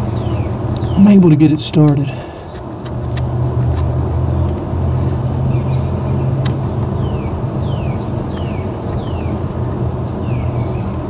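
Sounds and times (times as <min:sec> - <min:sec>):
motor vehicle engine rumble: 0:00.0 - 0:11.0.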